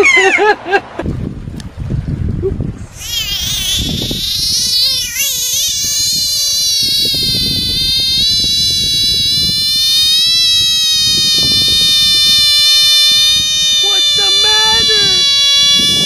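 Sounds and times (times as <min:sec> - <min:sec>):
frog distress scream: 0:02.9 - 0:16.0.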